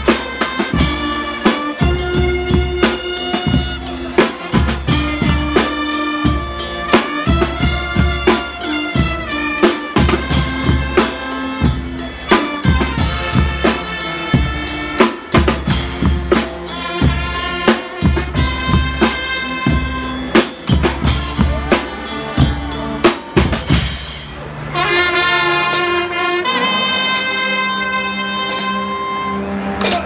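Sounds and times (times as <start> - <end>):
drum kit beat: 0.0 - 24.9
brass holding chords: 0.0 - 30.0.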